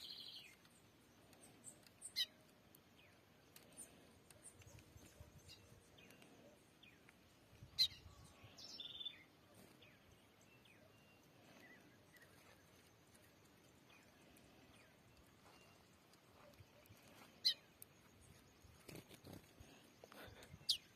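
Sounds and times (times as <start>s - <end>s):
small bird chirping: 0.0s - 20.9s.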